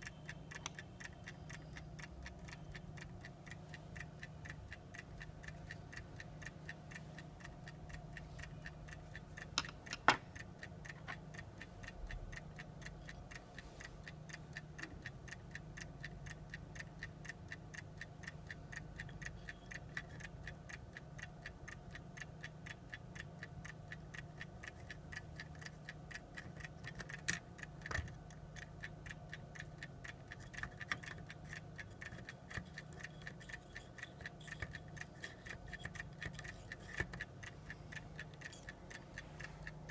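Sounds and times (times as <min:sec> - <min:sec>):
clock ticking: 0:00.0 - 0:39.9
faint steady hum: 0:00.0 - 0:39.9.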